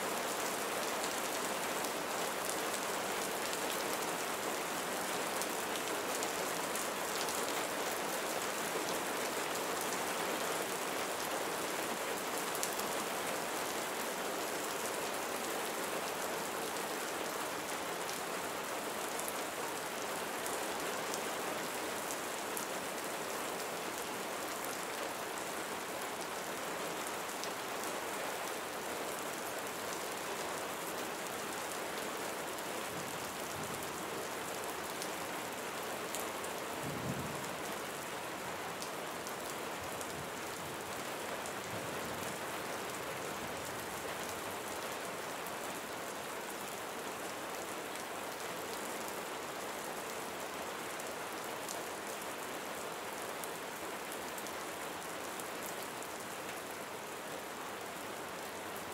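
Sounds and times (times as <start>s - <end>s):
rain on foliage: 0.0s - 58.9s.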